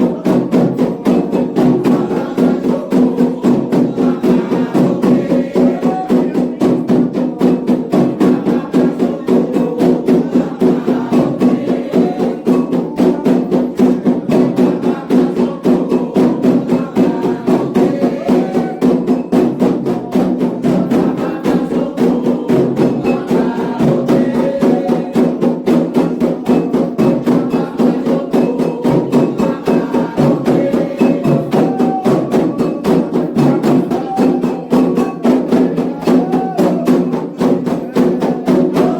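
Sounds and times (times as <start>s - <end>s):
hand drums playing fast rhythm: 0.0s - 38.9s.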